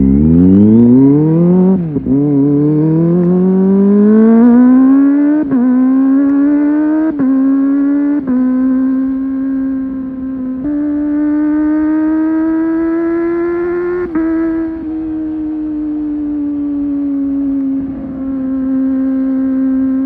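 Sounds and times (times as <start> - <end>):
motorcycle engine high-pitched note: 0.0 - 20.0.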